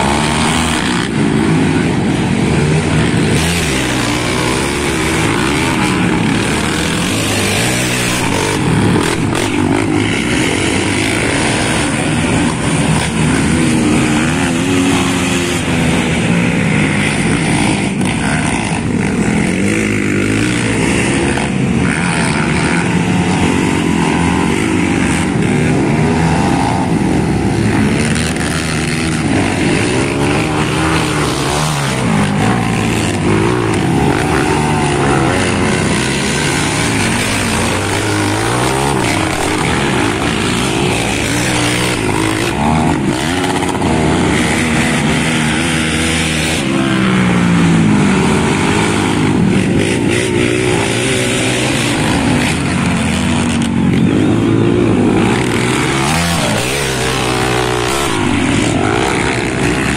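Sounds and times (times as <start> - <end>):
atv engines revving: 0.0 - 59.9.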